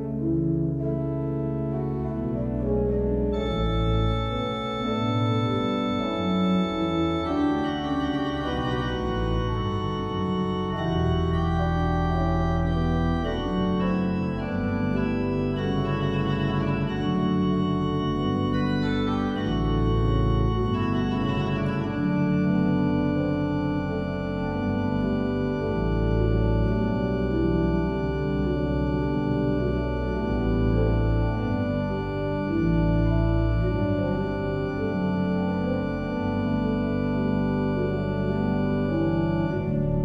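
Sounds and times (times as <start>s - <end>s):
deep organ pedal bass notes: 0.0s - 40.0s
pipe organ playing classical piece: 0.0s - 40.0s.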